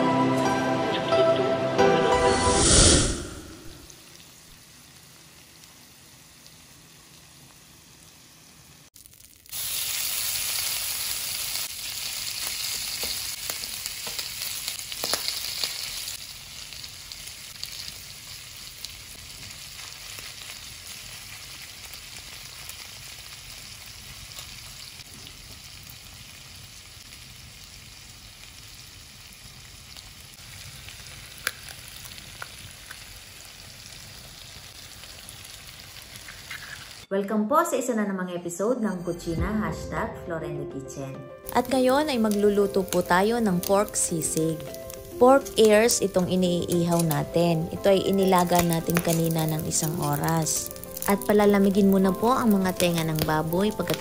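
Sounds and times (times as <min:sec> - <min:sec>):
meat sizzling on hot plate: 0:04.0 - 0:37.1, 0:41.5 - 0:54.0.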